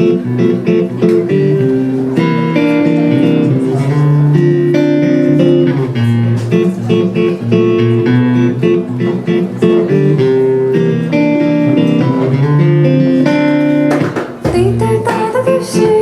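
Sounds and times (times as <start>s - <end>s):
guitar playing chords: 0.0s - 16.0s.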